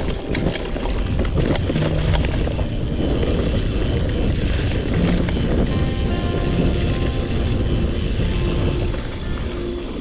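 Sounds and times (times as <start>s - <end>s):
bike tyres on dirt: 0.0s - 10.0s
wind rumble on microphone: 0.0s - 10.0s.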